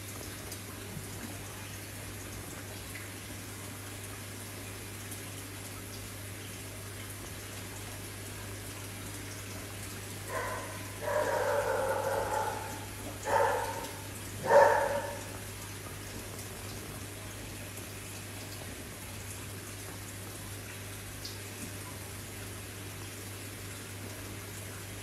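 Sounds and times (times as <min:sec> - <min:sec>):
aquarium filter running water: 0:00.0 - 0:25.0.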